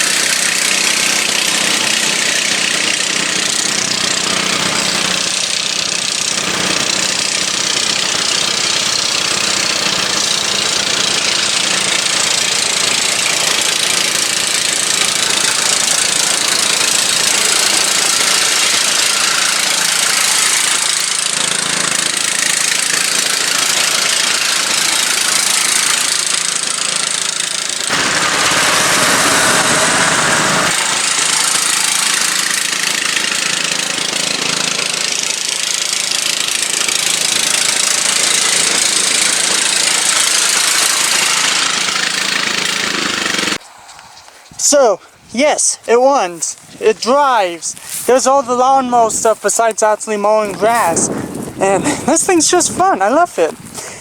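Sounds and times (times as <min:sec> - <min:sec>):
lawn tractor engine running: 0:00.0 - 0:43.7, 0:45.6 - 0:54.0.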